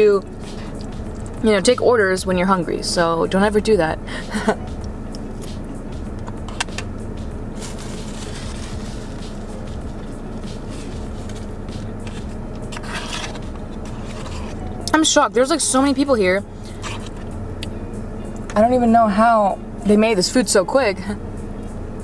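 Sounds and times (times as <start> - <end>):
car engine idling hum: 0.0 - 22.0.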